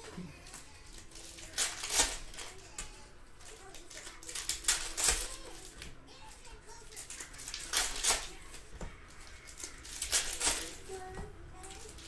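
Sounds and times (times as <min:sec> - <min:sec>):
plastic wrapper tearing and crinkling: 0:00.4 - 0:12.0.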